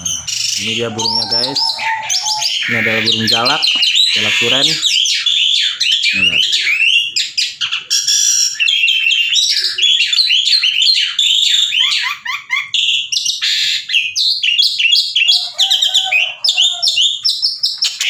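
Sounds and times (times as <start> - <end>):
starling singing: 0.0 - 18.0.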